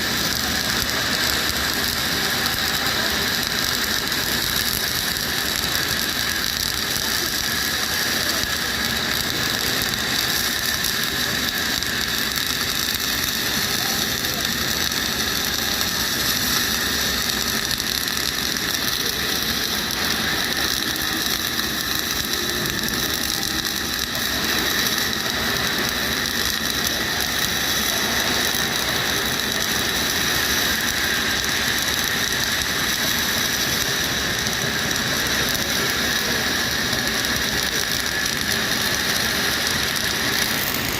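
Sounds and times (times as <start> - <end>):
welding arc crackling: 0.0 - 40.9.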